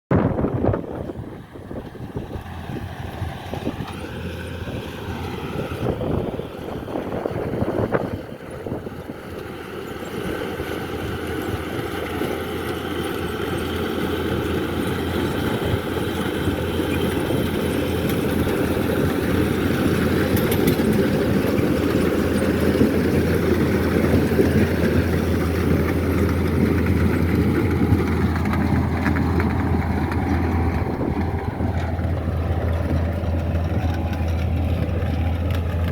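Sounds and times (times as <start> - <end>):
harvester engine drone: 0.1 - 35.9.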